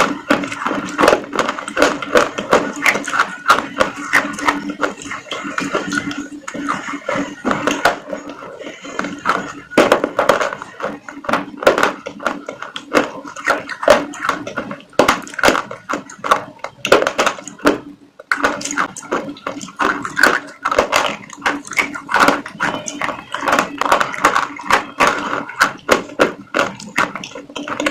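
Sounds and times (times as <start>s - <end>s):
chewing crunchy food: 0.0s - 27.9s.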